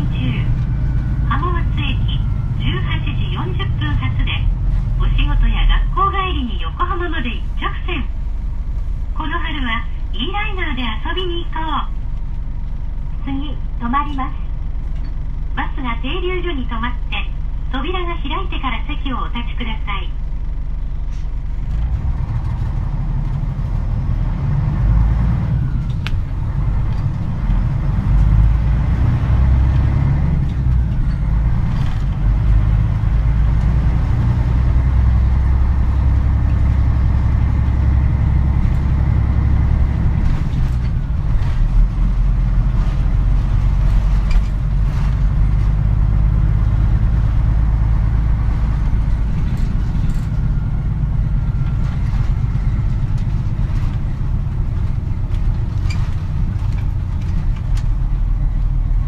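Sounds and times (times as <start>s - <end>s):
bus engine rumbling: 0.0s - 59.0s.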